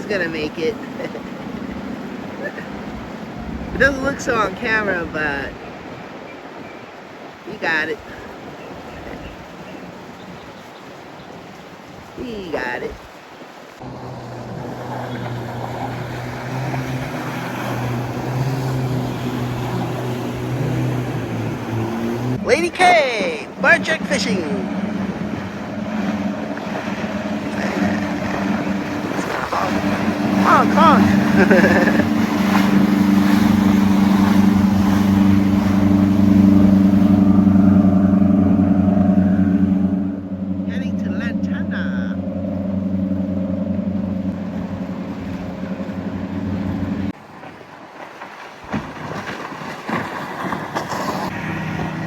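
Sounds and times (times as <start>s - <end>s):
motorboat engines droning: 0.0s - 52.0s
water rushing: 0.0s - 52.0s.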